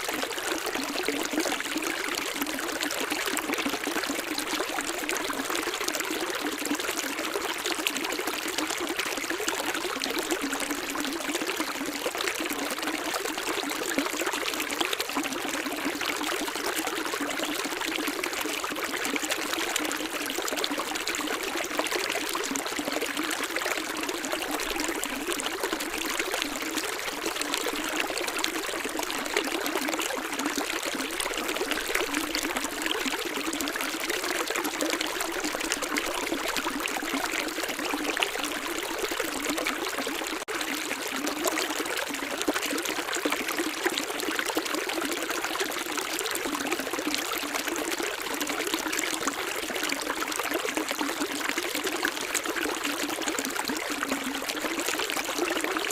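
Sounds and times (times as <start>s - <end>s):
running water trickling and splashing: 0.0s - 55.9s.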